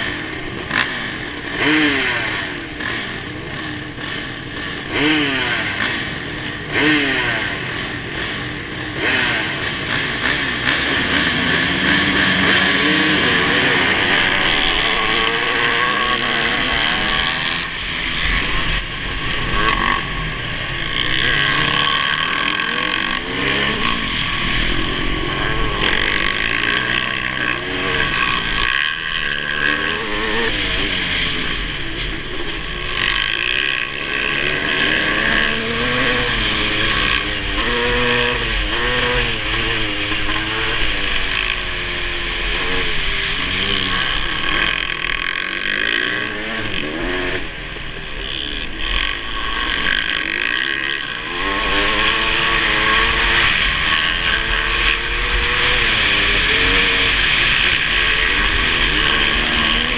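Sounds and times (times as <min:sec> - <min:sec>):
steady rushing noise: 0:00.0 - 0:59.9
two-stroke motorcycle engine revving: 0:00.0 - 0:59.9.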